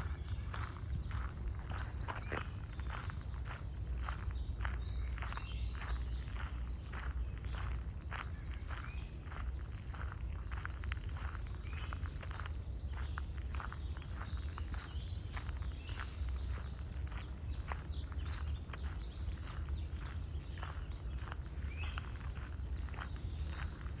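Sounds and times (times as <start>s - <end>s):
birds chirping: 0.0s - 24.0s
footsteps on a path: 0.0s - 24.0s.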